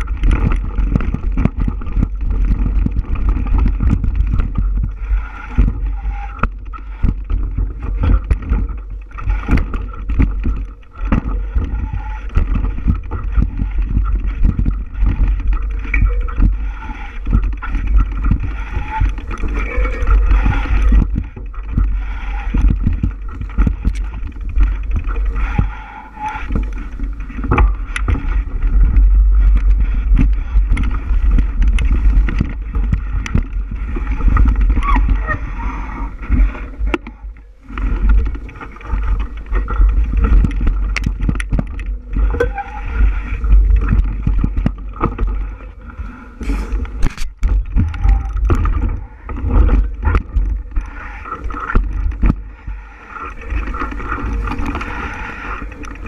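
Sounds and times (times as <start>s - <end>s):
bicycle rumble on rough trail: 0.0s - 56.0s
bike rattles and knocks: 0.0s - 56.0s.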